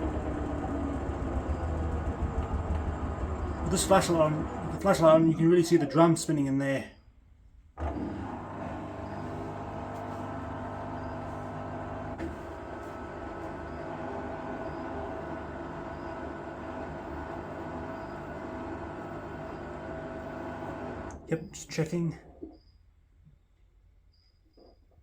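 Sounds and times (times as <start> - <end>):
washing machine spin hum: 0.0 - 6.1, 7.8 - 22.7.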